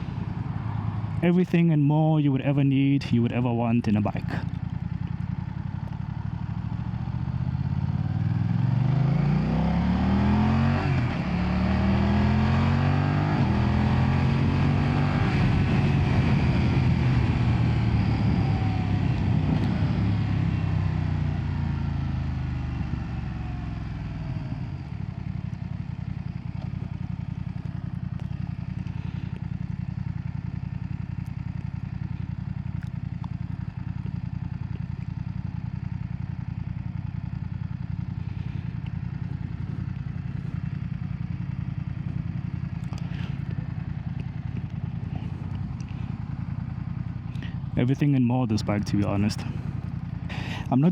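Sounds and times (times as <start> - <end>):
motorcycle engine accelerating: 0.0 - 1.4, 4.4 - 50.9.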